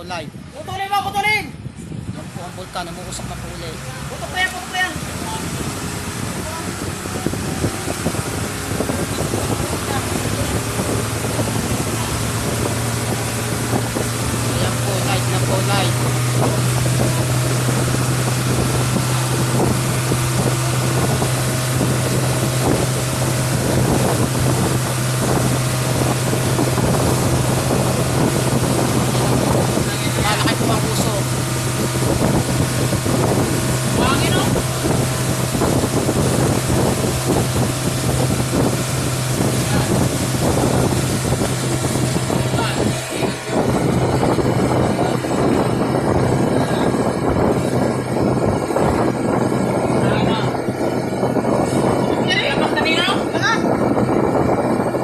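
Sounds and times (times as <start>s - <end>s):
low engine drone: 0.0s - 55.0s
wind noise on microphone: 0.0s - 55.0s.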